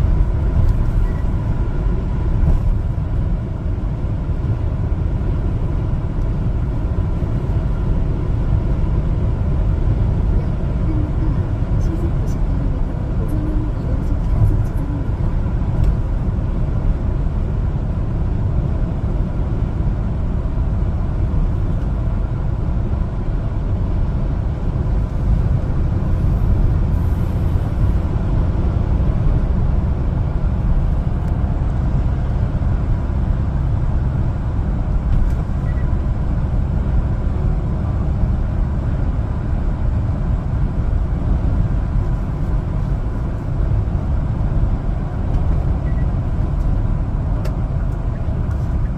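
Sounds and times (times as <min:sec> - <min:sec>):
truck engine and road noise: 0:00.0 - 0:48.9.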